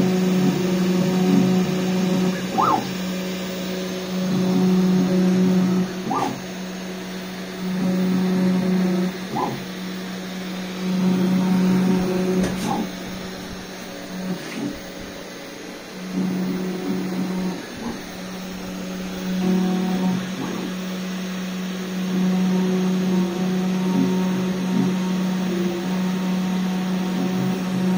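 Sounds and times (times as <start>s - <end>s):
router motor hum: 0.0s - 27.9s
short rising whines: 0.0s - 27.9s.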